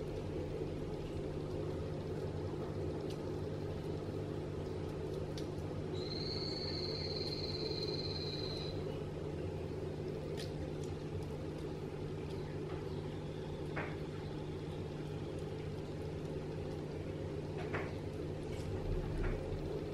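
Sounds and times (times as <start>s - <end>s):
aquarium equipment humming: 0.0s - 19.9s.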